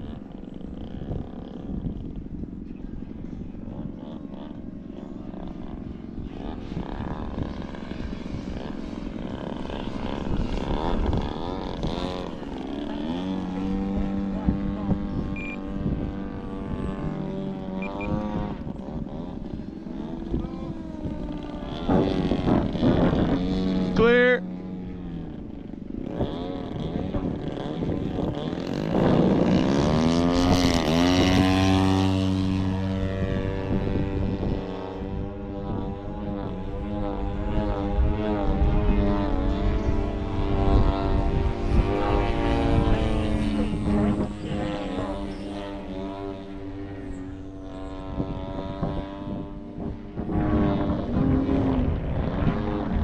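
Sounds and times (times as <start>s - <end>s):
model plane motor and propeller: 0.0s - 53.0s.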